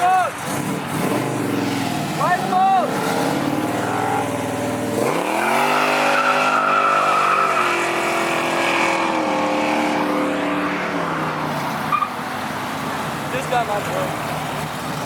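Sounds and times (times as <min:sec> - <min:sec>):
tires squealing: 0:00.0 - 0:15.0
truck engine revving: 0:00.0 - 0:15.0.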